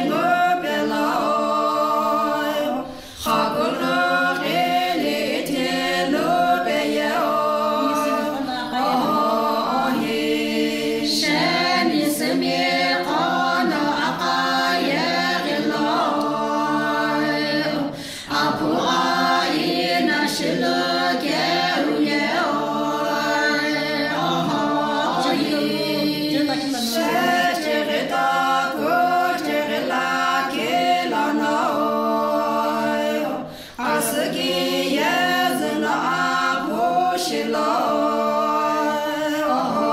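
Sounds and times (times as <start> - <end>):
women singing a cappella: 0.0 - 39.9.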